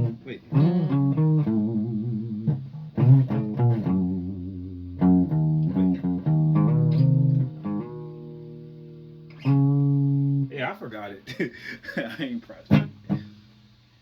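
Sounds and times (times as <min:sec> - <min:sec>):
electric guitar notes: 0:00.0 - 0:10.7, 0:12.6 - 0:13.7.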